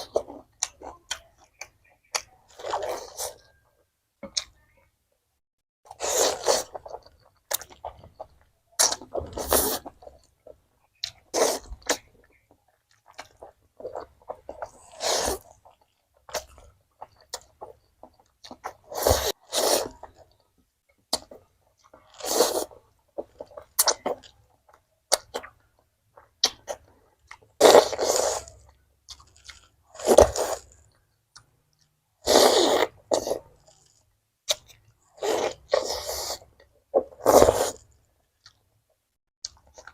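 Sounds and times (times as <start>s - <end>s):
biting and chewing: 5.9s - 38.7s.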